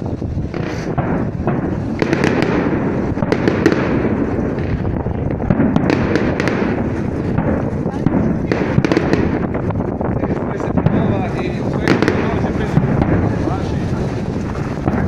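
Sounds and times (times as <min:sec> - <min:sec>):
crackling firework pops: 0:00.0 - 0:15.0
rumble of firework bursts: 0:00.0 - 0:15.0.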